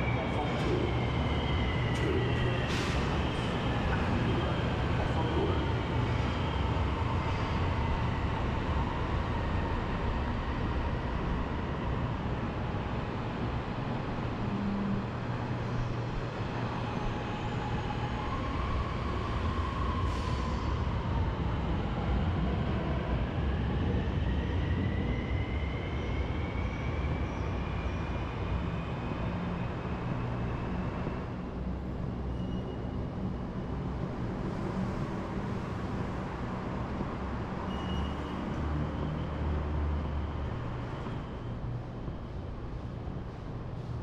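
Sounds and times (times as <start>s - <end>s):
light-rail train rumbling: 0.0s - 44.0s.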